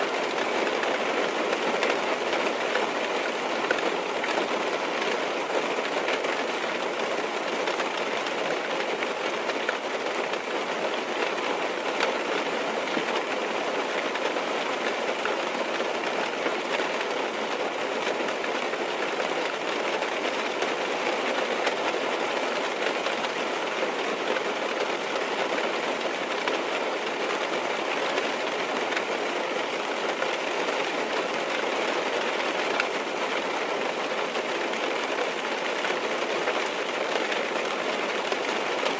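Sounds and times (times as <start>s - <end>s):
rain on car roof: 0.1s - 38.9s.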